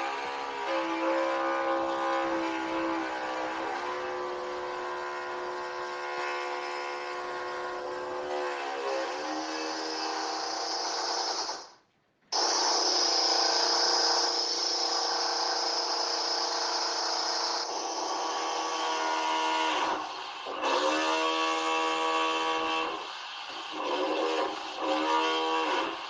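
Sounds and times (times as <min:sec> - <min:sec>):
electric drill whining: 0:00.0 - 0:11.8, 0:12.4 - 0:26.0.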